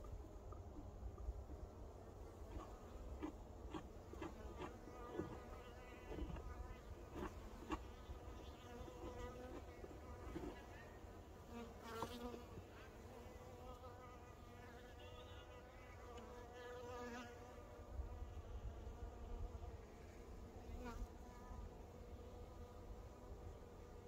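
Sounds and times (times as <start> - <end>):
hum of many bees: 0.0 - 24.0
single bee flying close: 2.4 - 24.0.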